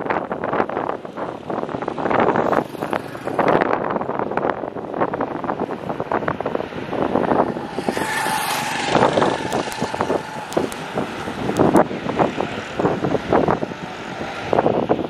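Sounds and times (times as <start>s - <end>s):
wind gusting on microphone: 0.0s - 15.0s
small motorcycle passing by: 1.5s - 4.5s, 5.9s - 15.0s.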